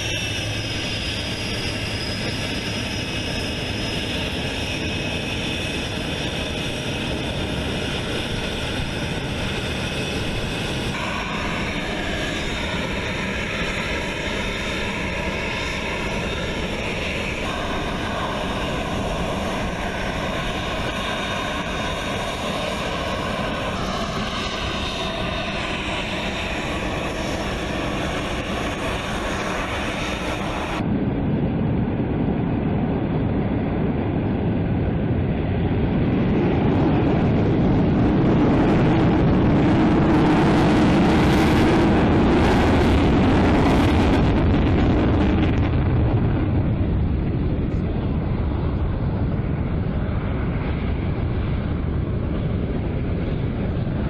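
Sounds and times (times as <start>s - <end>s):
jet engine whine: 0.0s - 54.0s
jet roar: 0.0s - 54.0s.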